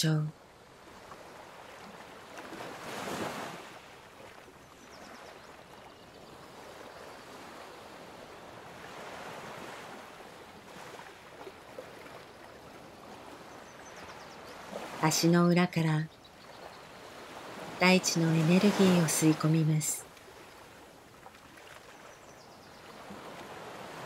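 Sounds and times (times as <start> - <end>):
soft rushing water: 0.0 - 24.0.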